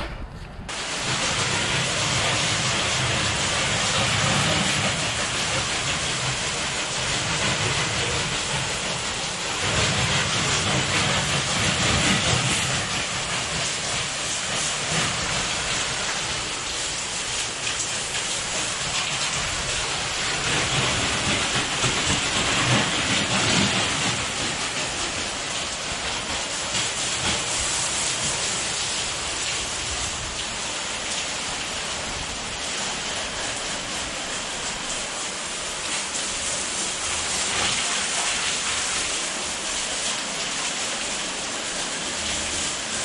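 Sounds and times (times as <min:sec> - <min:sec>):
pressure washer spraying: 0:00.7 - 0:43.0.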